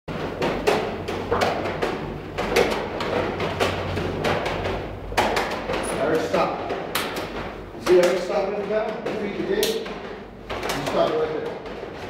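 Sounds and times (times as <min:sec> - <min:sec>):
hands slapping and striking: 0:00.4 - 0:11.8.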